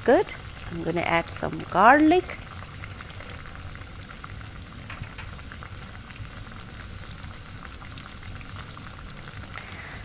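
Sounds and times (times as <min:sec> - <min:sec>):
pot bubbling and sizzling: 0:00.0 - 0:10.0.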